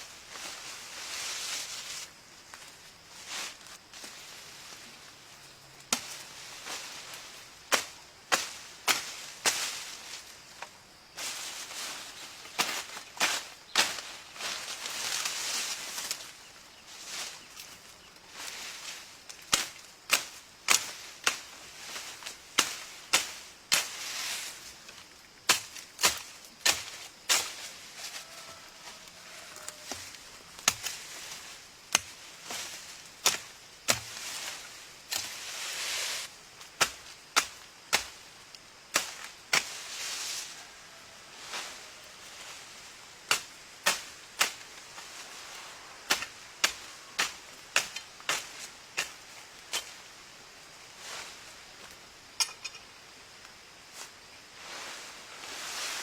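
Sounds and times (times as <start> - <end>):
branches and leaves rustling: 0.0 - 56.0.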